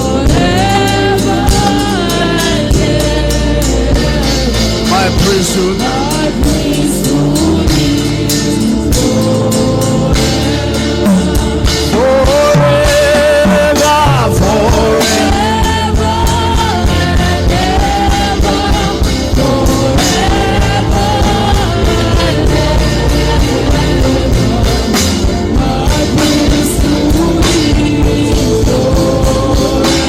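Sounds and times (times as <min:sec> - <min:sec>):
band playing: 0:00.0 - 0:30.0
person singing: 0:00.0 - 0:30.0.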